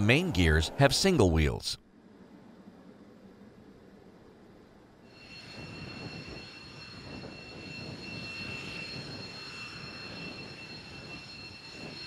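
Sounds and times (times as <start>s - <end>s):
jet engine rushing and whine: 0.0s - 12.0s.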